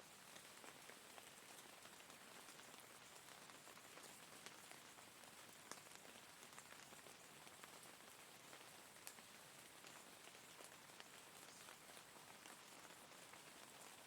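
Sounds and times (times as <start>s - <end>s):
soft rain pattering: 0.0s - 14.0s.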